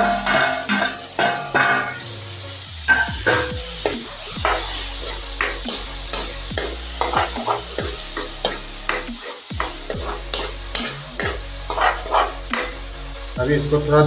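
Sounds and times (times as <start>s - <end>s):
ladle scraping metal pan: 0.0s - 2.2s, 2.9s - 12.8s
vegetables sizzling in oil: 0.0s - 12.8s.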